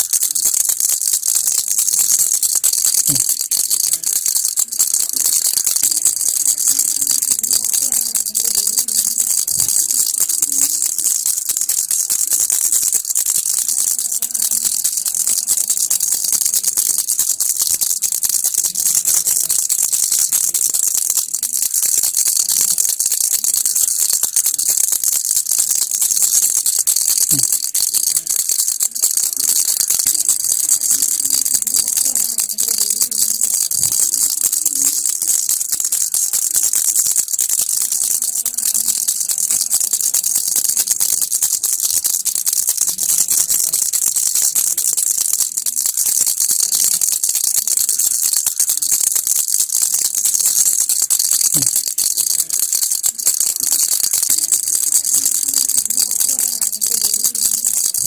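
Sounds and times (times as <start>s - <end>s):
baby rattle shaking: 0.0s - 58.0s.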